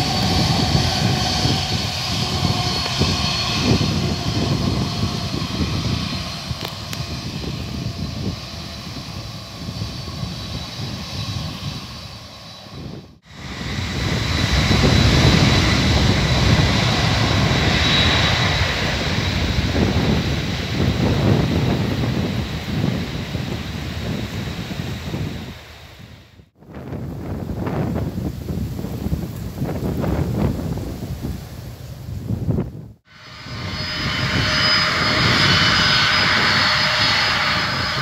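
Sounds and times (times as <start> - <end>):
jet engines whining and rumbling: 0.0 - 38.0.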